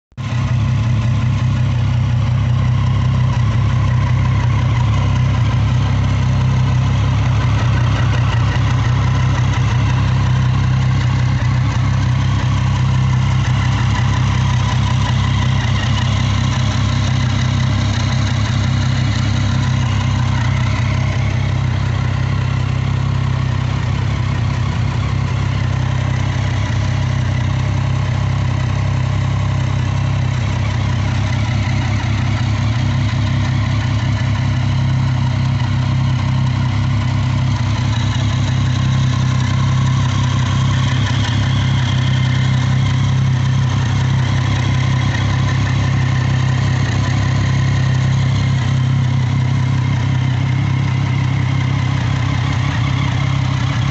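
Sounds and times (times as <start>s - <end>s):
motorcycle engine idling: 0.2s - 53.9s.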